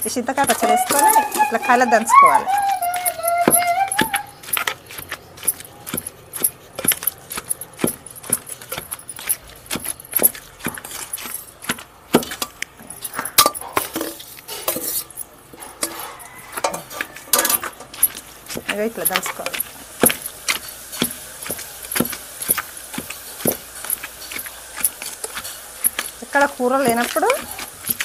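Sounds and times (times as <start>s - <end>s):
pestle pounding in stone mortar: 0.2s - 14.1s, 15.8s - 28.0s
spoon clinking on stone: 0.3s - 28.0s.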